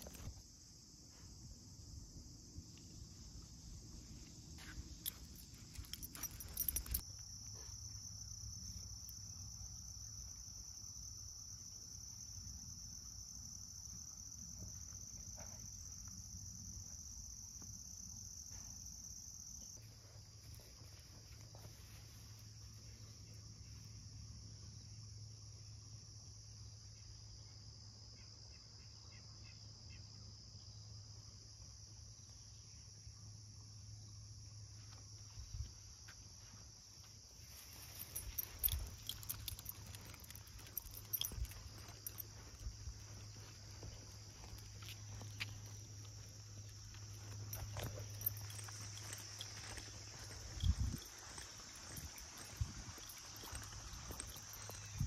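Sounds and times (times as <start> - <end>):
crickets and insects buzzing: 0.0 - 55.0.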